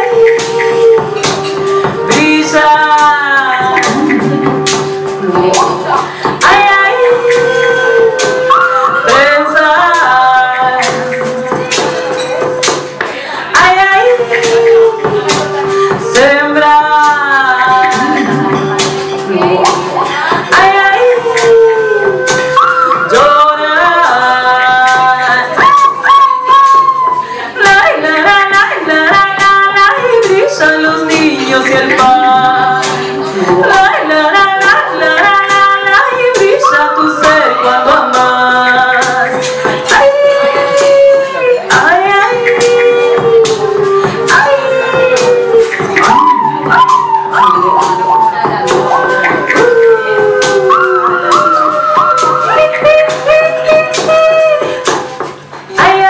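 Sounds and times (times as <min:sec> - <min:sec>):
woman singing long notes: 0:00.0 - 0:56.0.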